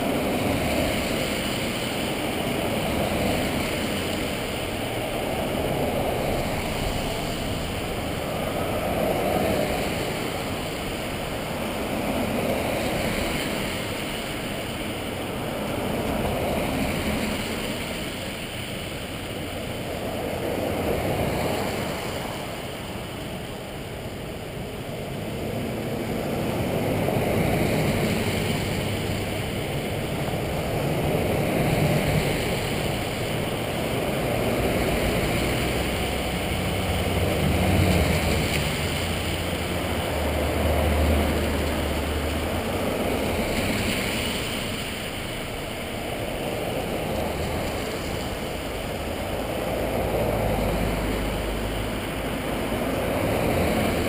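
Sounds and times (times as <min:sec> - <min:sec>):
low engine hum: 0:00.0 - 0:54.0
vehicles driving past: 0:00.0 - 0:54.0.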